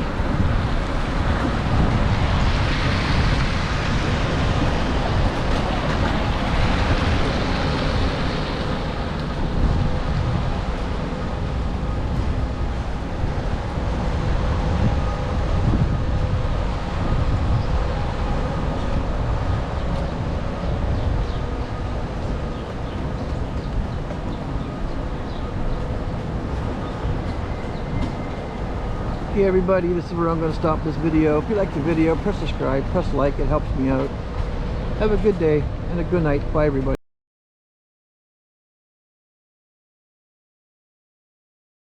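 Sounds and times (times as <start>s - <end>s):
wind buffeting microphone: 0.0s - 36.9s
city traffic rumble: 0.0s - 37.0s.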